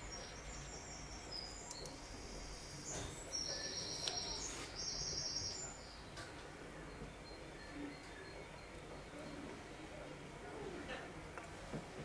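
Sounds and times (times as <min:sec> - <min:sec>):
faint birds chirping: 0:00.0 - 0:10.9.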